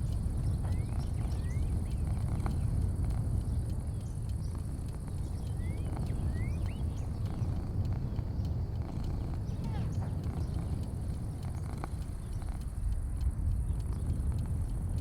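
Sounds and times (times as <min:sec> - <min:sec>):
birds chirping: 0:00.0 - 0:15.0
faint ticks: 0:00.0 - 0:15.0
low rumble: 0:00.0 - 0:15.0.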